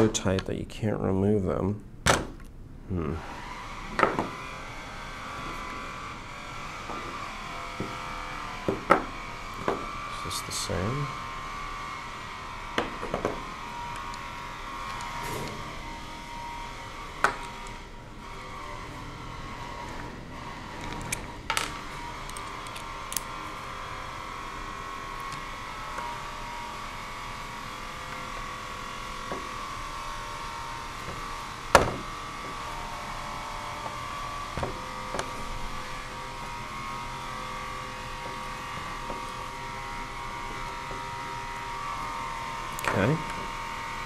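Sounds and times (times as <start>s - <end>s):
machinery droning: 0.0s - 1.9s, 2.7s - 44.0s.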